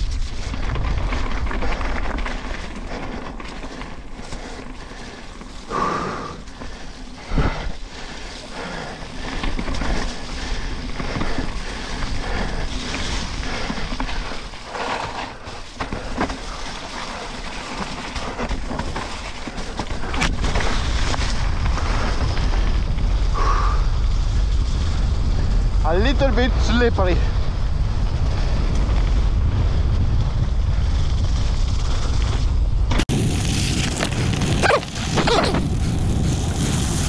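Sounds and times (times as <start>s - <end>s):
bike rattling over rough ground: 0.0s - 37.0s
wind rushing over microphone: 4.8s - 16.5s, 18.2s - 37.0s.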